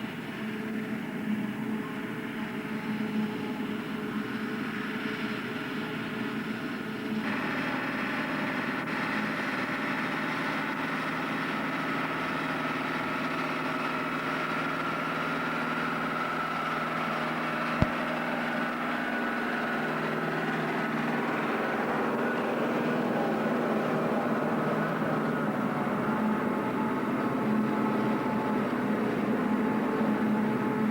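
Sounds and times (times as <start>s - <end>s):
harvester machine drone with whine: 0.0s - 30.9s.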